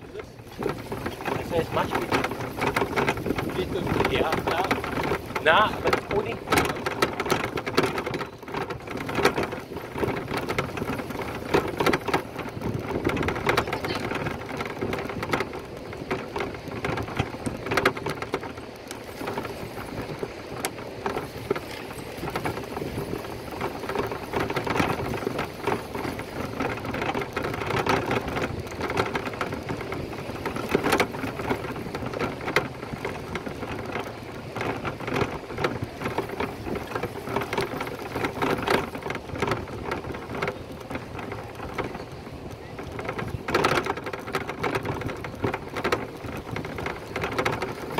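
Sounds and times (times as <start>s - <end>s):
bike ride rush: 0.0s - 47.9s
rapid small clicks and rattles: 0.0s - 47.9s.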